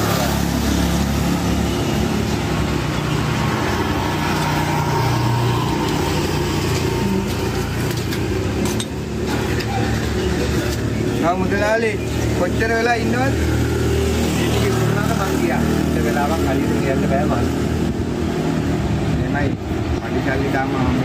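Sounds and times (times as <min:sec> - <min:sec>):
motorcycle engines passing: 0:00.0 - 0:21.0.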